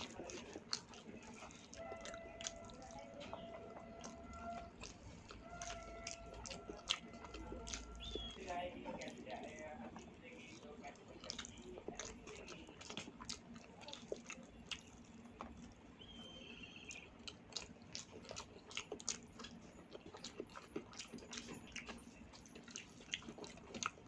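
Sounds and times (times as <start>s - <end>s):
chewing and wet mouth clicks: 0.0s - 24.0s
light crunch of food: 0.0s - 24.0s.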